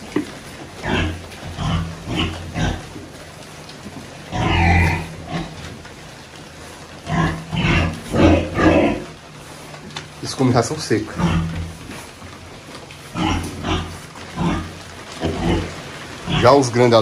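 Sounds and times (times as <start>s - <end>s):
pigs grunting: 0.0s - 17.0s.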